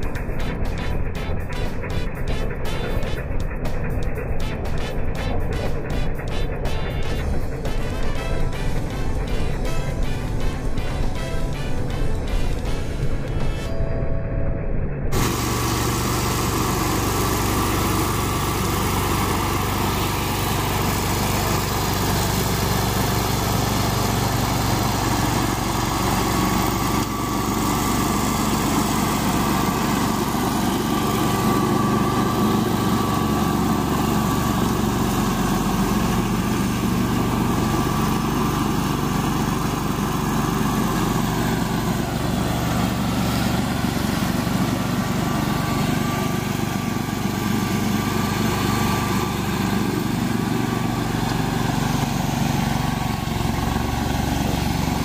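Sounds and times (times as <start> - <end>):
brush mower engine running: 0.0 - 55.0.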